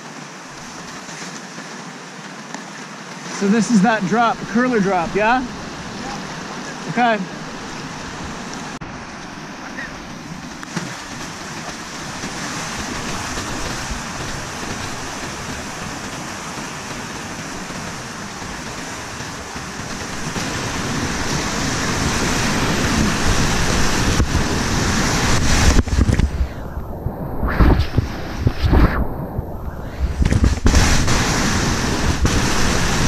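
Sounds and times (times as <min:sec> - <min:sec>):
water splashing over microphone: 0:00.0 - 0:33.0
whitewater rapid rushing: 0:00.0 - 0:33.0.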